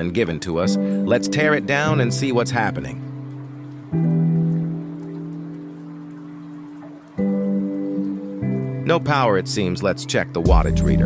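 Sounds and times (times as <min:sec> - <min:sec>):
music with held chords: 0:00.0 - 0:11.0.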